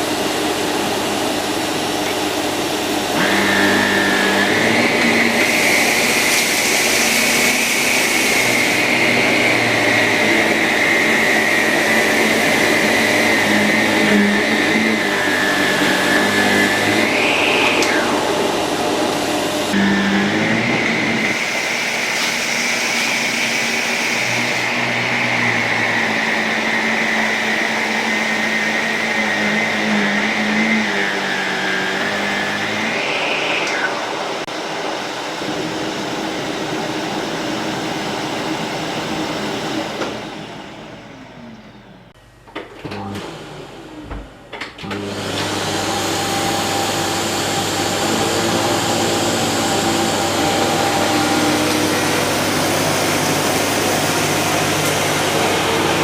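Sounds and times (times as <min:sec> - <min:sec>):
second vacuum cleaner running: 0:00.0 - 0:56.0
vacuum cleaner whining: 0:00.0 - 0:56.0.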